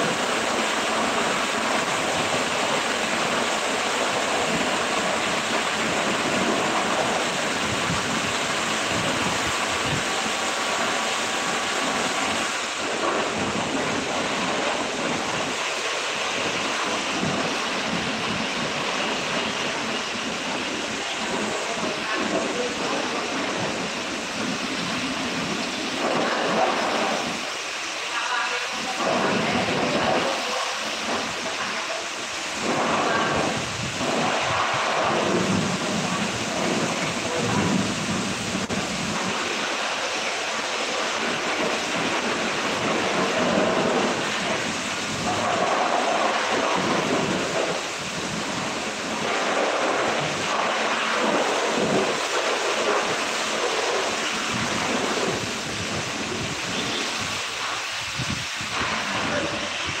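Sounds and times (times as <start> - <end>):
water jet spraying a truck: 0.0 - 60.0.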